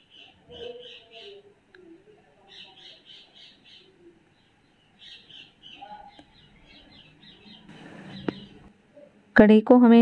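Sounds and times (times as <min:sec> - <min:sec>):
bird chirping faintly: 0:00.0 - 0:09.1.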